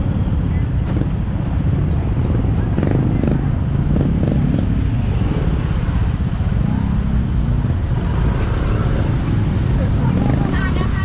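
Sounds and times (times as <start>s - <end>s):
crowd voices: 0.0s - 11.0s
motorbike engines running low: 0.0s - 11.0s.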